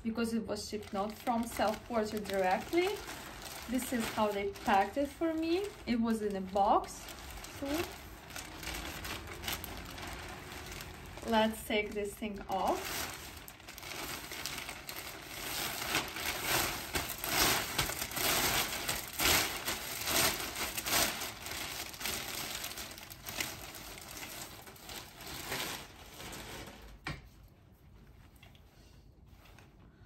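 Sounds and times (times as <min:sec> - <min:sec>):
packaging rustling and crackling: 0:00.6 - 0:27.0.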